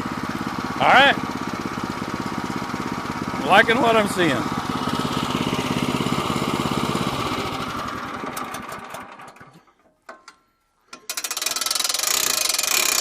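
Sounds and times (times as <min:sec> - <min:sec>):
small gas engine running: 0:00.0 - 0:09.8, 0:11.0 - 0:13.0.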